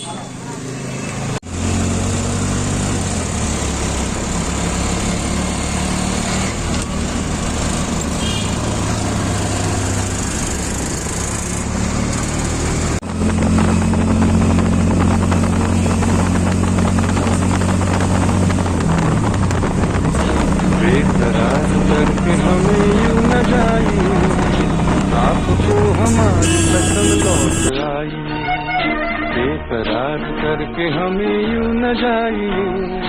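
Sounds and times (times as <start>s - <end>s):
engine humming: 0.0s - 27.7s
road noise: 0.0s - 27.8s.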